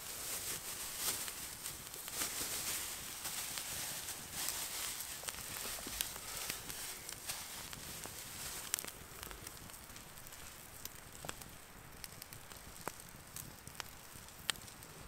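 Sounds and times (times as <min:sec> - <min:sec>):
food sizzling on a grill: 0:00.0 - 0:13.8
campfire crackling and popping: 0:00.0 - 0:15.0.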